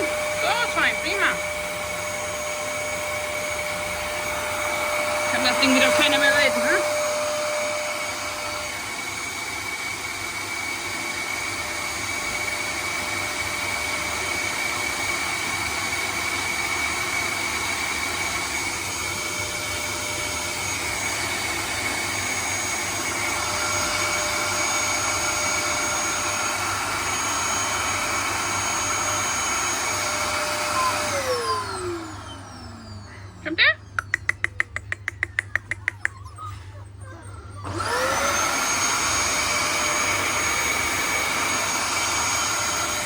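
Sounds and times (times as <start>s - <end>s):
vacuum cleaner running: 0.0s - 34.4s, 35.5s - 43.0s
vacuum motor spinning down: 0.0s - 43.0s.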